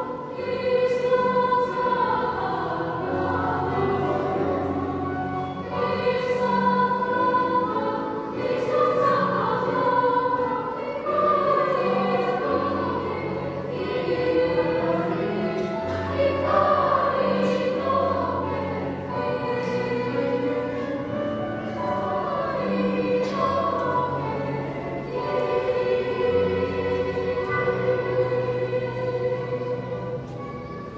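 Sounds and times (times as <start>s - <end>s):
children's choir singing: 0.0s - 30.9s.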